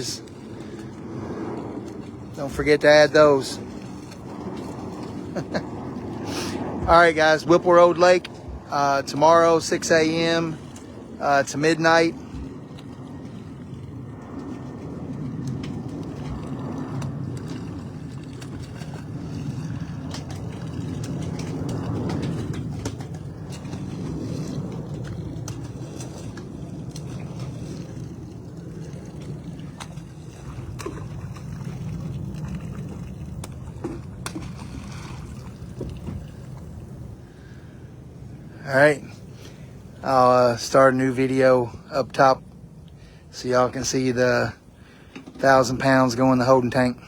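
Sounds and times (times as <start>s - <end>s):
water gurgling and splashing: 0.0s - 47.0s.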